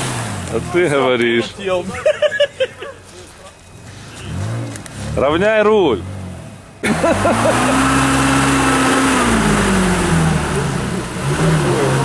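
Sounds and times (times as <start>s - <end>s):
off-road vehicle engine running: 0.0s - 2.1s, 3.3s - 12.0s.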